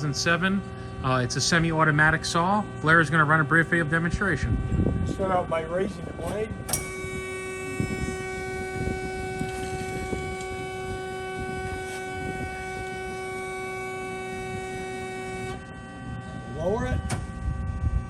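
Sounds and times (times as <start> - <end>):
hydraulic machine whine: 0.0 - 18.0.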